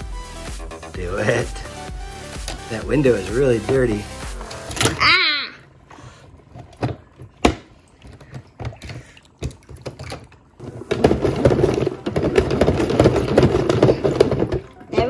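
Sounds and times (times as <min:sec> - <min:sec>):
water churning: 0:02.7 - 0:15.0.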